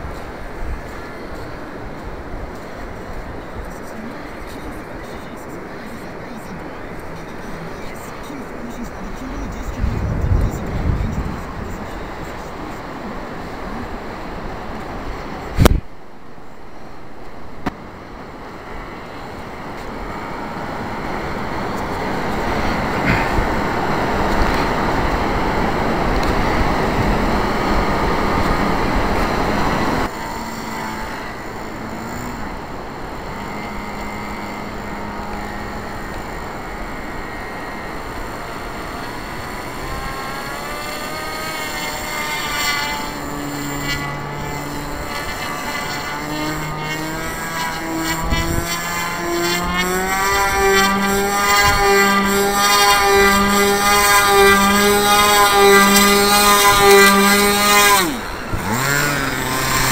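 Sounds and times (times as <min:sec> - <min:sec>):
model plane engine running: 0:00.0 - 0:59.9
wavering whine: 0:00.0 - 0:59.9.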